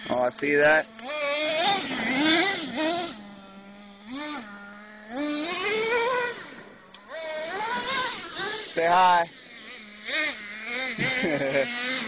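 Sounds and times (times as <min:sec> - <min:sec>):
small engine idling and revving: 0:00.0 - 0:12.0.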